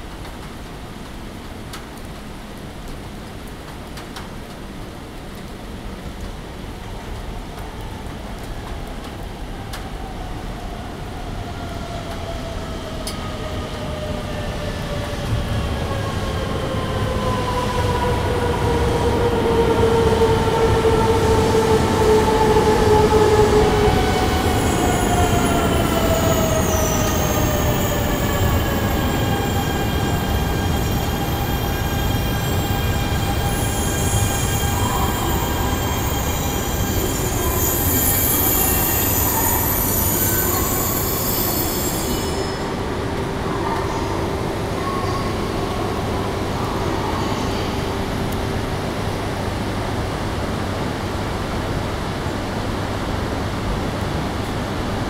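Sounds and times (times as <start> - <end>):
rumble of train wheels: 0.0 - 55.0.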